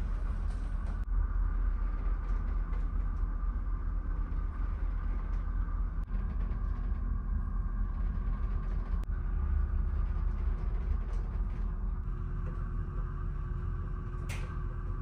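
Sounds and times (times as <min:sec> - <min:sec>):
ferry engines rumbling: 0:00.0 - 0:15.0.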